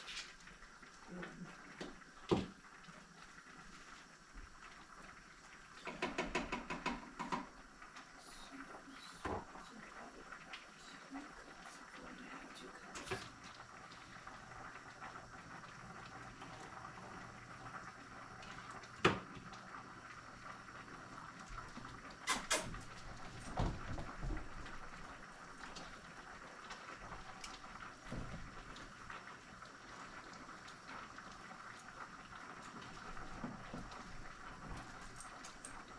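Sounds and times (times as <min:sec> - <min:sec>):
faint steady hiss: 0:00.0 - 0:35.9.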